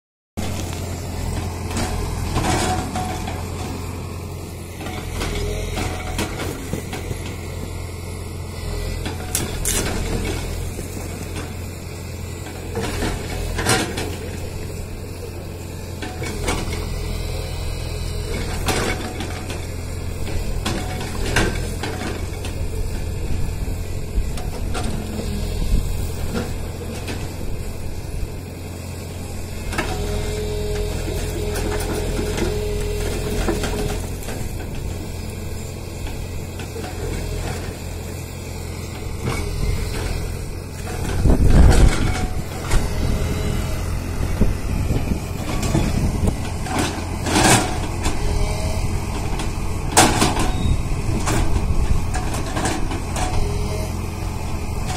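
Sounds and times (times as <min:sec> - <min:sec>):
excavator diesel engine running: 0:00.4 - 0:54.9.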